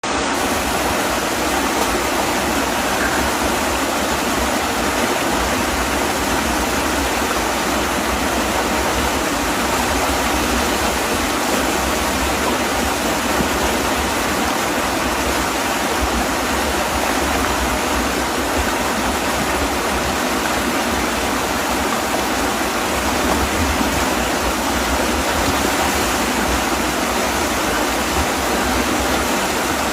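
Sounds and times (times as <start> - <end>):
rushing river water: 0.0 - 29.9.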